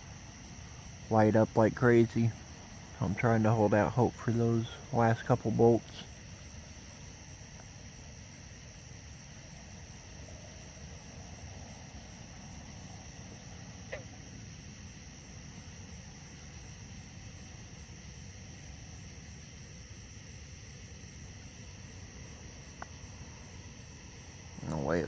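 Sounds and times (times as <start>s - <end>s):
low background hiss: 0.0s - 25.0s
night insects chorus: 0.0s - 25.0s.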